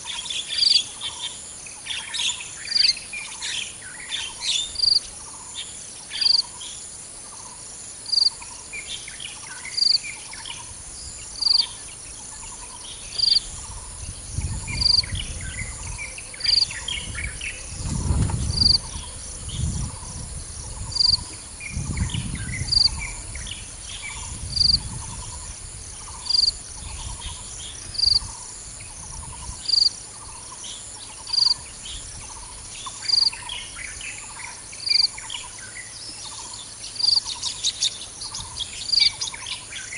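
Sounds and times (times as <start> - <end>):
birds calling: 0.0 - 39.9
insects chirping: 0.0 - 39.9.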